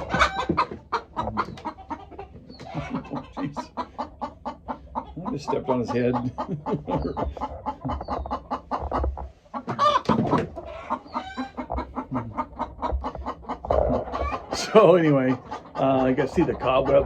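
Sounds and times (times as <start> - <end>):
chickens clucking: 0.0 - 17.0
drawn-out chicken squawk: 0.0 - 17.0.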